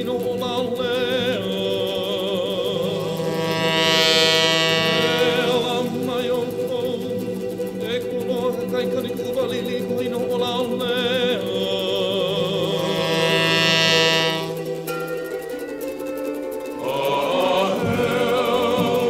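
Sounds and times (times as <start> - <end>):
song with singing: 0.0 - 15.6, 16.6 - 19.0
sustained wavering instrument tones: 0.0 - 15.9, 16.8 - 19.0.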